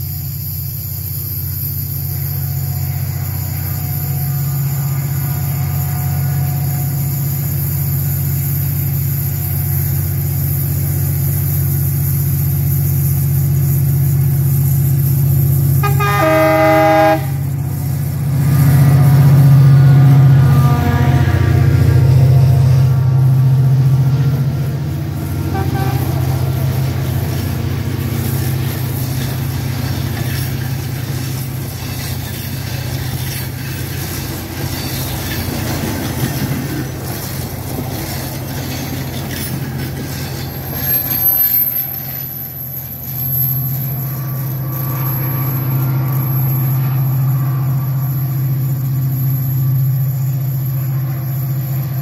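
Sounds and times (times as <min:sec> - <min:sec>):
train running with rail noise: 0:00.0 - 0:52.0.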